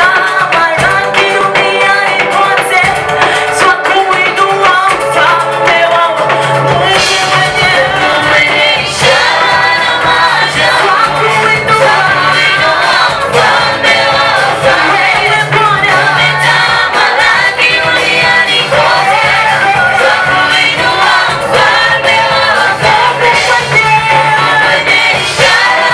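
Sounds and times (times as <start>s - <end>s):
choir singing gospel song: 0.0s - 25.9s.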